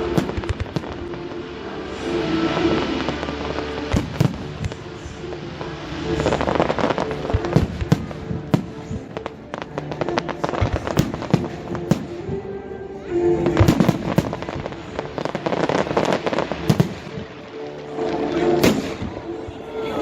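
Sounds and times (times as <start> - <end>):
fireworks banging and crackling: 0.0 - 20.0
music: 0.0 - 20.0.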